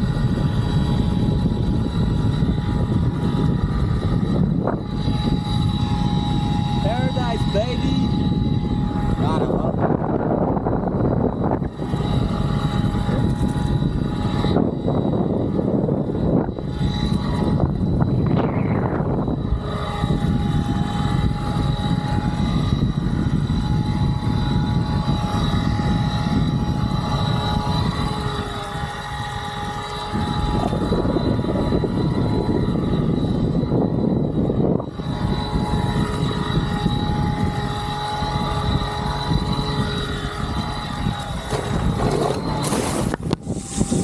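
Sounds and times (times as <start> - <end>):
electric motor whine: 0.0 - 44.0
rush of wind and water: 0.0 - 44.0.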